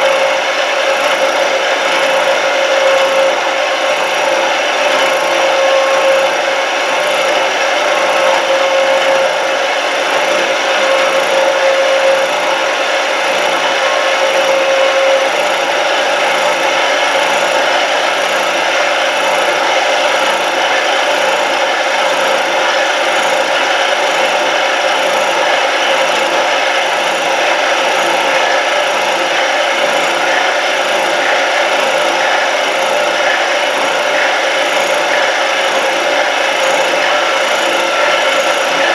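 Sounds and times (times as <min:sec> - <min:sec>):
milling machine cutting steel: 0:00.0 - 0:38.9.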